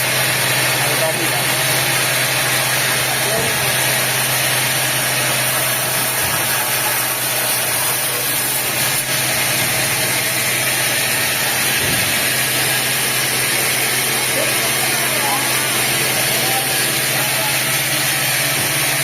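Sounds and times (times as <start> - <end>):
sawmill machinery drone: 0.0 - 19.0.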